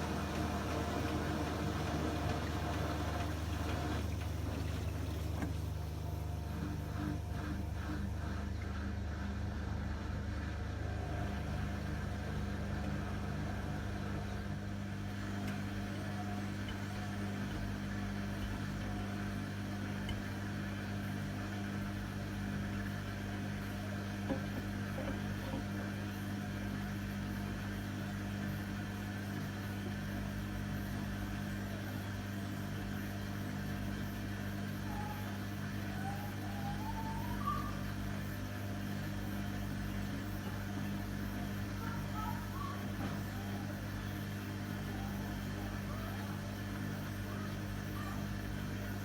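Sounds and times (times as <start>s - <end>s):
washing machine humming: 0.0s - 49.0s.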